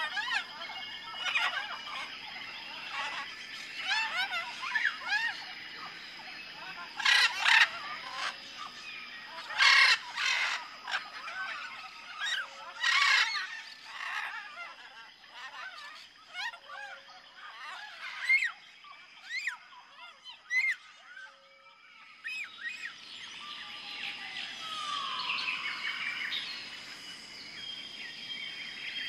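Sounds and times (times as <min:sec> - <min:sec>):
birds chirping and whistling: 0:00.0 - 0:29.0
loud bird calls: 0:00.0 - 0:29.0.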